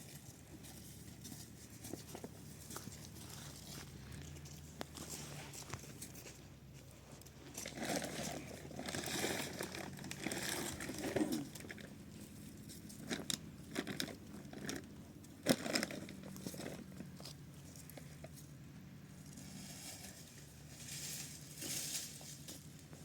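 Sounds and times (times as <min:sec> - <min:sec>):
rustling and crinkling: 0:00.0 - 0:23.0.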